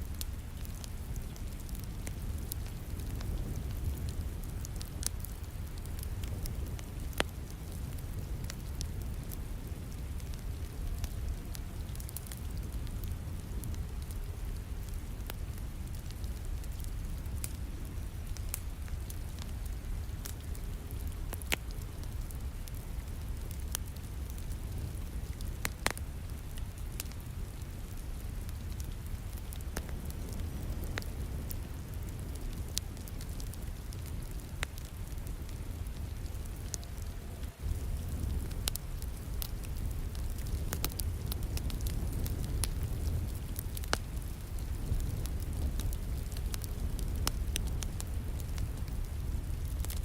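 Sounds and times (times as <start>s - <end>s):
rain hiss: 0.0s - 50.0s
wood fire crackling and popping: 0.0s - 50.0s.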